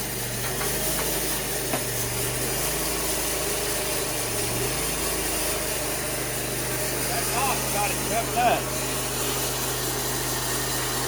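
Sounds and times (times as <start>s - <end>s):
sawmill engine idling: 0.0s - 11.0s.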